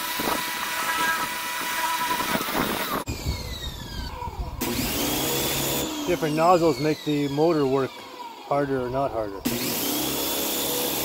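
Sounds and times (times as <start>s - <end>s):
pressure washer pump motor whining: 0.0s - 11.0s.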